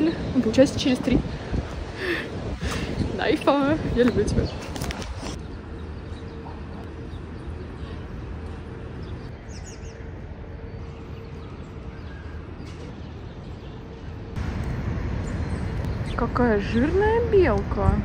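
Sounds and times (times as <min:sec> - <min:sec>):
low city hum: 0:00.0 - 0:18.0.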